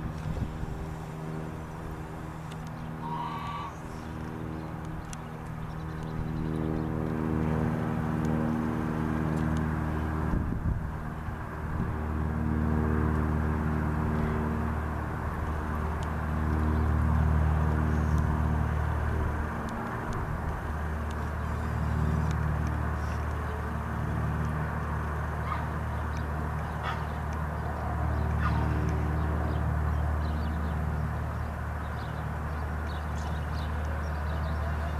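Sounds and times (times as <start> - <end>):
light aircraft engine droning: 0.0 - 34.9.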